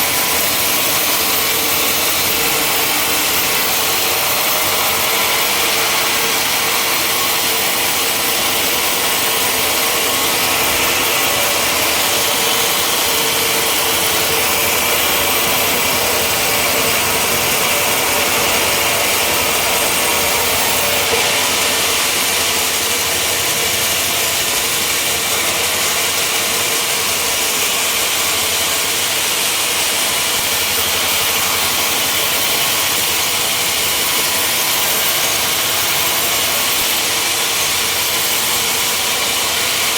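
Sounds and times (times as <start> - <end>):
saw cutting through timber: 0.0 - 39.9.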